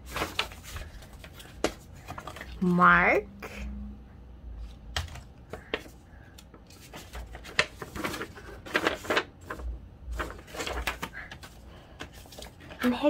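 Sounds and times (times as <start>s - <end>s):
paper rustling and crinkling: 0.0s - 2.7s, 4.6s - 13.0s.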